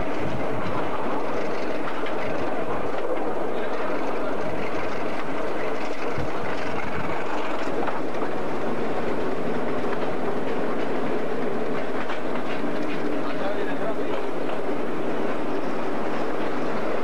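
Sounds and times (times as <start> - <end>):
train rumbling: 0.0 - 17.0
wheels clacking on rail joints: 0.0 - 17.0.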